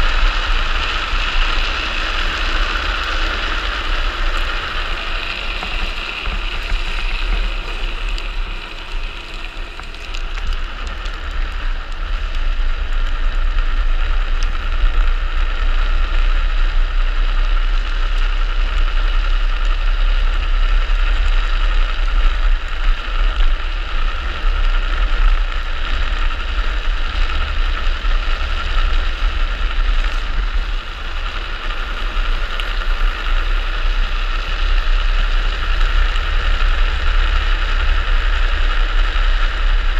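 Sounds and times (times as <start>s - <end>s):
wheels rolling on asphalt: 0.0s - 39.9s.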